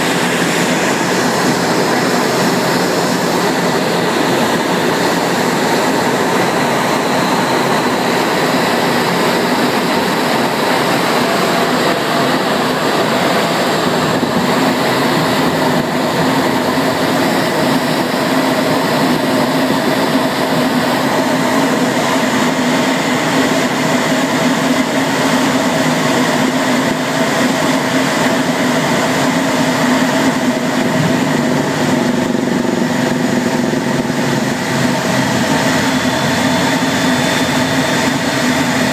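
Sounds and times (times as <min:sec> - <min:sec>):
jet cockpit air rush and engine hum: 0:00.0 - 0:38.9
steady whining tones: 0:00.0 - 0:38.9.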